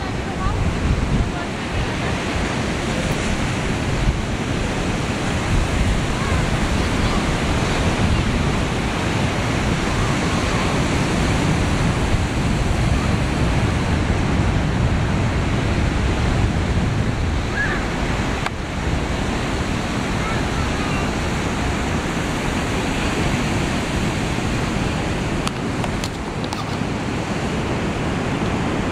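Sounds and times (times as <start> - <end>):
ocean surf breaking: 0.0 - 28.9
wind buffeting microphone: 0.0 - 28.9.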